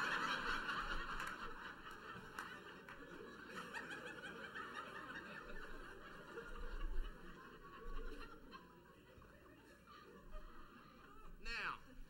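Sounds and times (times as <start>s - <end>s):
audience laughing: 0.0s - 11.3s.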